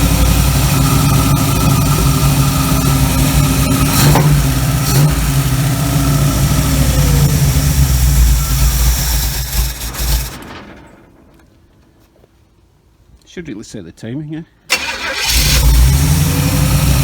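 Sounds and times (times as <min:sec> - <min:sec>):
engine running: 0:00.0 - 0:11.8, 0:14.7 - 0:17.0.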